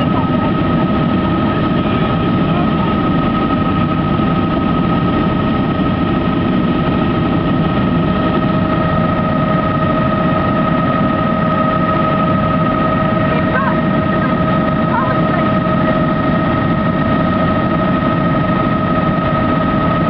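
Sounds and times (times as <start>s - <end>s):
helicopter engine and rotors: 0.0s - 20.0s.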